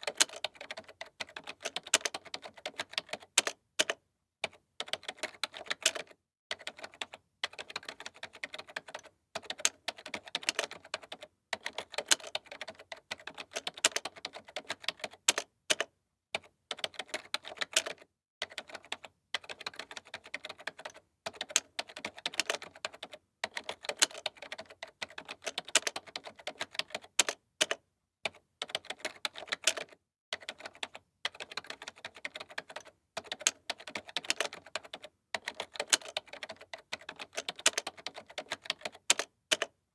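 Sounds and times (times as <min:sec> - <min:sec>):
typing on computer keyboard: 0:00.0 - 0:39.8.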